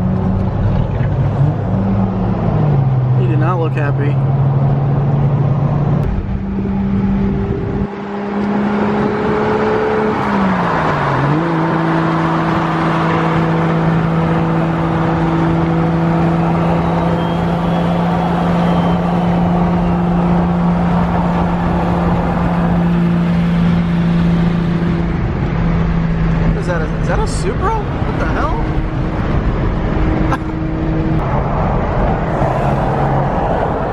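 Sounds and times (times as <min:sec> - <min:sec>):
car engine droning: 0:00.0 - 0:33.9
road noise: 0:00.0 - 0:33.9.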